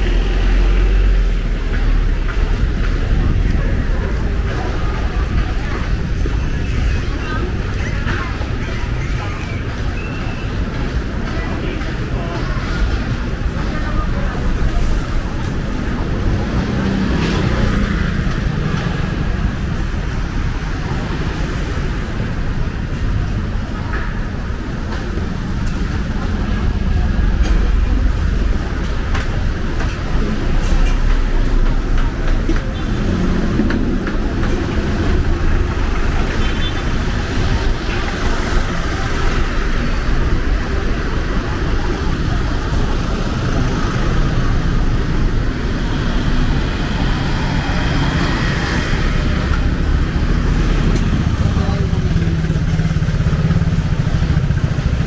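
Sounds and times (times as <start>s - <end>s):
car engines and traffic: 0.0s - 55.0s
people's voices: 0.0s - 55.0s.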